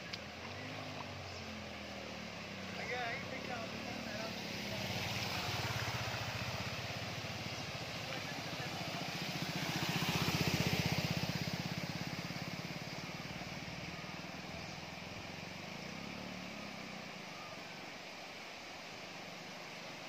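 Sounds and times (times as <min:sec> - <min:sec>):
motorcycle engine running: 0:00.0 - 0:20.0
water splashing from wheels: 0:00.0 - 0:20.0.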